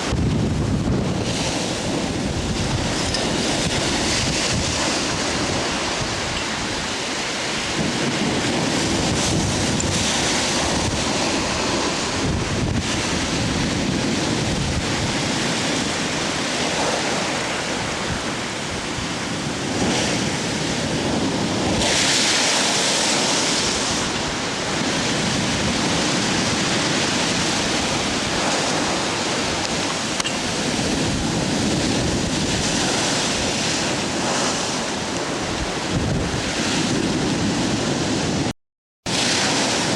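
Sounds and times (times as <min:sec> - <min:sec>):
surf pounding against sea wall: 0:00.0 - 0:38.5, 0:39.1 - 0:39.9
wind buffeting microphone: 0:00.0 - 0:38.5.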